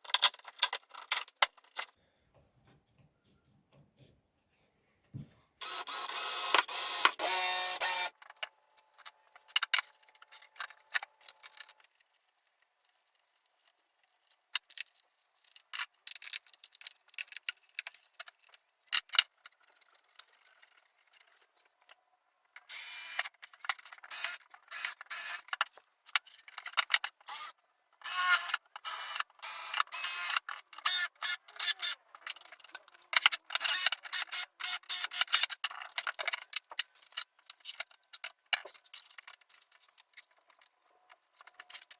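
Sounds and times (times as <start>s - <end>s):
metal parts clicking and knocking: 0.0s - 2.0s, 5.6s - 22.0s, 22.7s - 41.9s.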